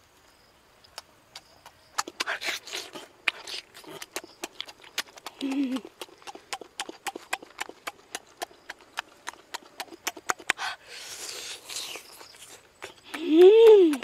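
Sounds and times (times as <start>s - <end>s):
wet chewing and lip-smacking: 0.9s - 14.0s.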